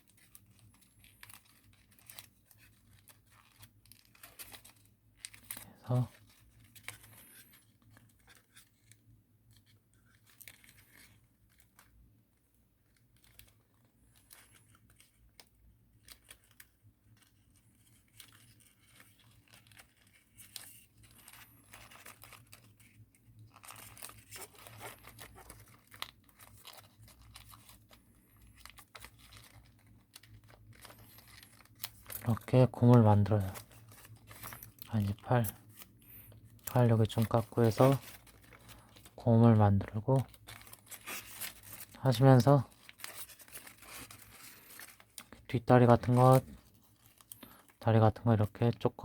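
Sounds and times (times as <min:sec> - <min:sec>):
paper crinkling while folded: 0:00.0 - 0:49.0.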